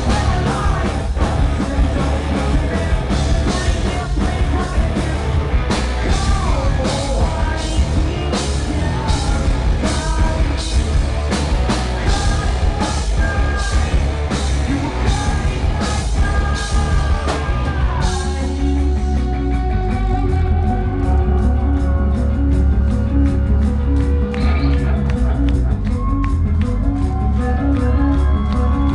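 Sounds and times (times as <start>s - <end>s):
man singing: 0.0s - 10.9s, 11.8s - 25.4s
bass guitar: 0.0s - 28.9s
drums: 0.0s - 28.9s
electric guitars: 0.0s - 28.9s.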